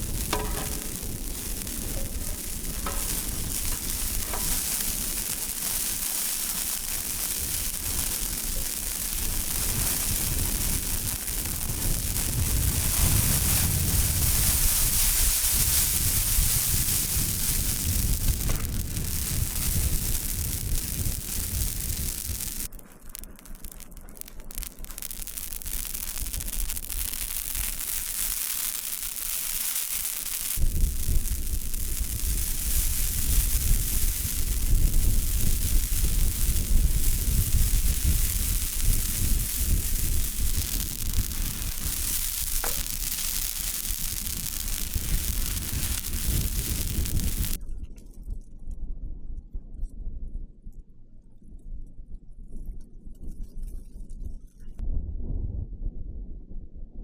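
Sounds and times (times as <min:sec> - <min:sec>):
wind buffeting microphone: 0:00.0 - 0:22.7, 0:24.2 - 0:47.6, 0:54.8 - 0:57.0.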